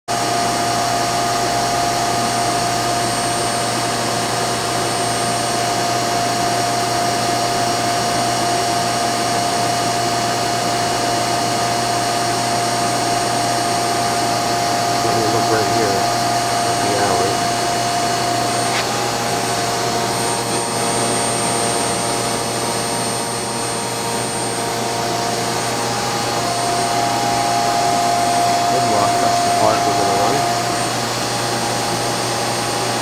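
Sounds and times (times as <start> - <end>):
machine whirring with high whine: 0.1 - 33.0.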